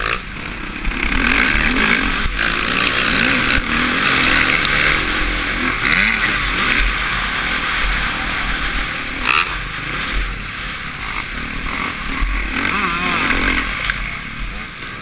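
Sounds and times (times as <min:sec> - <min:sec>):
motocross engine revving: 0:00.0 - 0:15.0
wind noise: 0:00.0 - 0:15.0.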